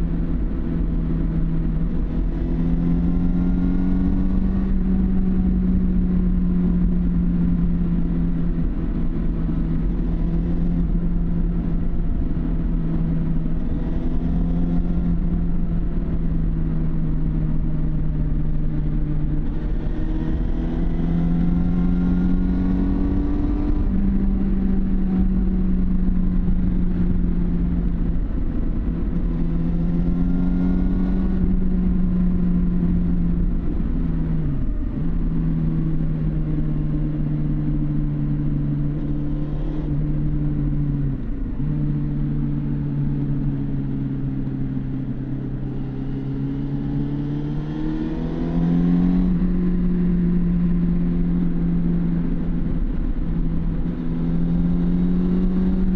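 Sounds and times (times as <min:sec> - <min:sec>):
motorcycle engine riding: 0:00.0 - 0:55.9.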